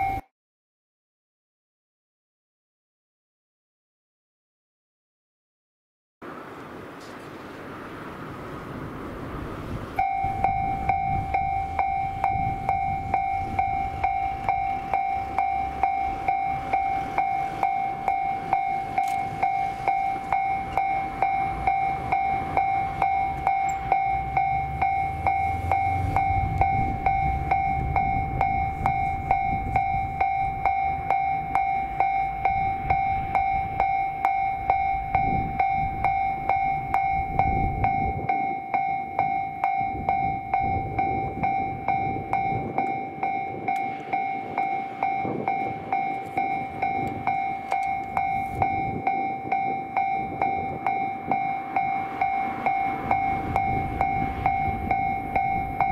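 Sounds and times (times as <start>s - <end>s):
level-crossing warning bell ringing: 0.0s - 0.2s, 9.9s - 55.9s
low rumble: 9.0s - 38.4s, 39.7s - 55.9s.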